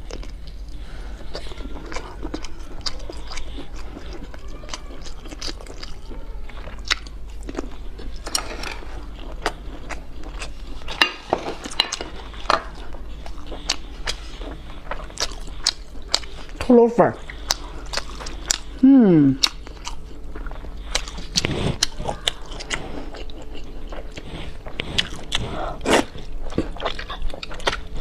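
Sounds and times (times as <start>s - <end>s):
person biting and chewing food: 0.0s - 16.6s, 17.2s - 28.0s.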